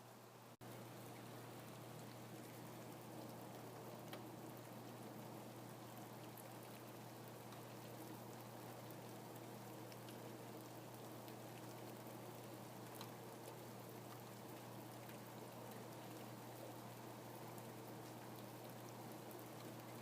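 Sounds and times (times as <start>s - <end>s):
low steady hum: 0.0s - 20.0s
rain pattering: 0.6s - 20.0s
raindrop ticks: 0.7s - 20.0s.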